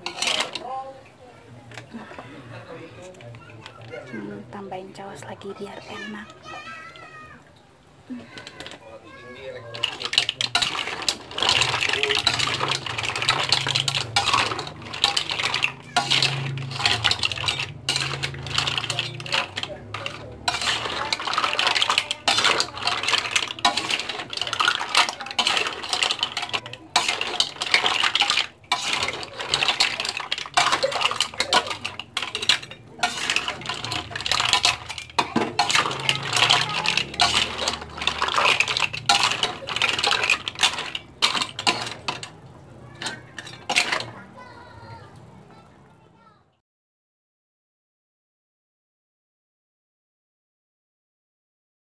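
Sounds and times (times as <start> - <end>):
mussel shells clattering in metal pan: 0.0 - 6.8, 8.1 - 45.6.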